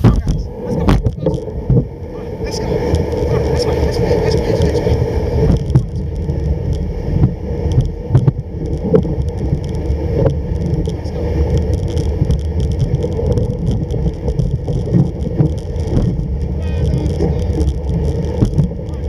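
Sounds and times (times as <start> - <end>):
sled runners scraping over snow: 0.0 - 19.0.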